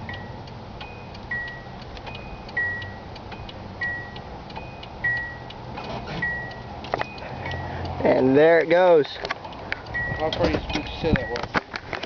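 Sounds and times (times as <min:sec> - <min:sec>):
vehicle warning chime ding-dong: 0:00.0 - 0:08.7, 0:09.9 - 0:11.5.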